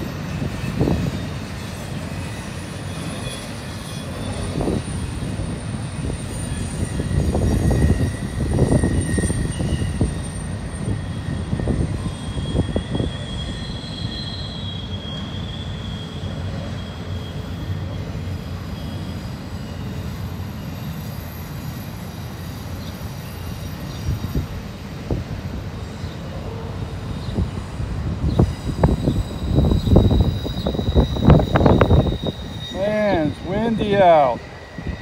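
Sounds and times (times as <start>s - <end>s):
high wheel squeal: 0.0s - 35.0s
train wheels rumbling on rails: 0.0s - 35.0s.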